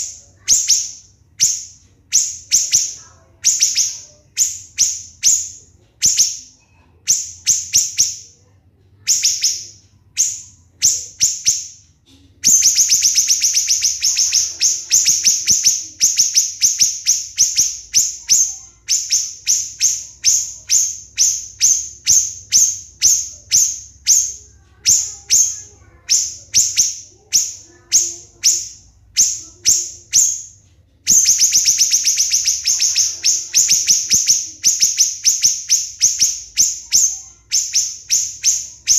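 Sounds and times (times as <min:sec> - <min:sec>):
bird high-pitched piercing calls: 0:00.0 - 0:38.9.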